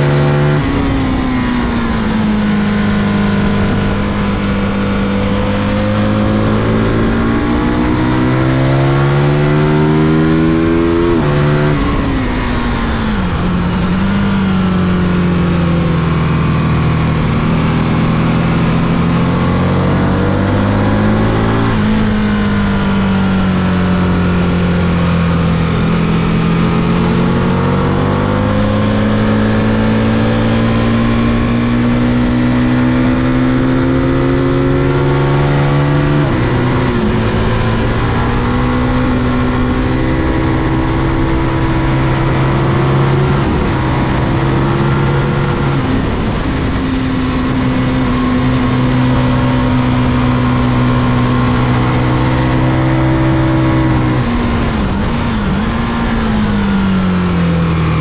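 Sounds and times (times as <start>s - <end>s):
motorcycle engine revving: 0.0s - 58.0s
wind rush: 0.6s - 58.0s.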